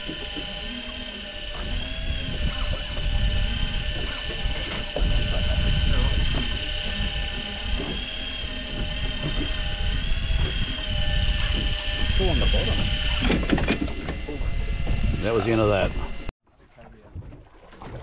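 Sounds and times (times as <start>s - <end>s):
electric reel motor whining: 0.0s - 16.3s
wind and water rumble: 0.0s - 18.0s.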